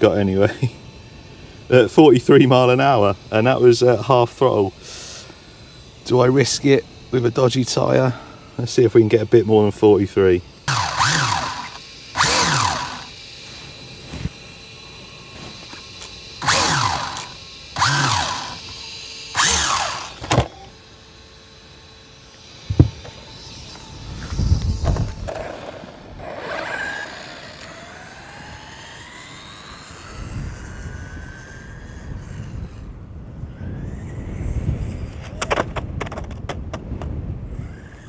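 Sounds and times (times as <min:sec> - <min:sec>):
rc car motor whine: 0:00.0 - 0:38.0.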